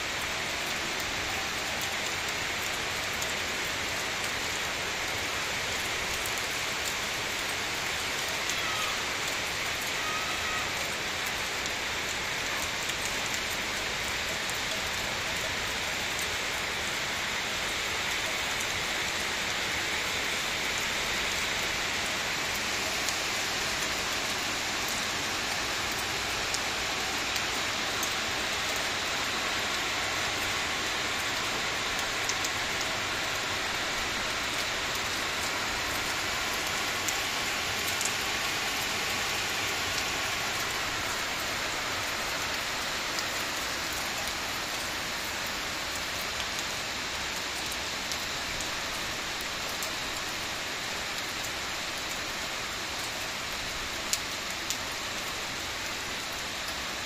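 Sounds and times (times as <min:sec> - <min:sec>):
rain on roofs and ground: 0:00.0 - 0:57.0.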